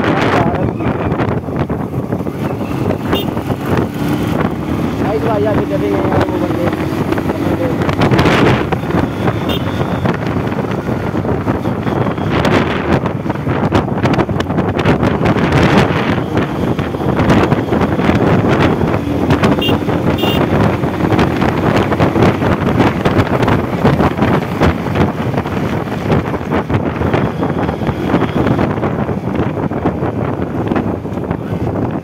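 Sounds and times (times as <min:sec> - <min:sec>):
wind buffeting microphone: 0:00.0 - 0:32.0
motorcycle engine running: 0:00.2 - 0:32.0.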